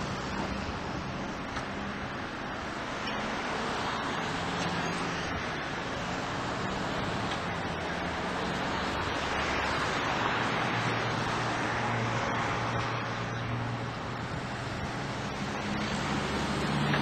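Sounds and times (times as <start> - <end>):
traction engine driving on road: 0.0 - 17.0.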